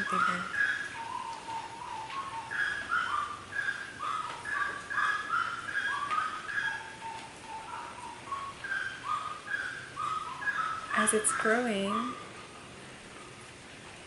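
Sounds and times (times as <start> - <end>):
birds whistling: 0.0 - 12.3.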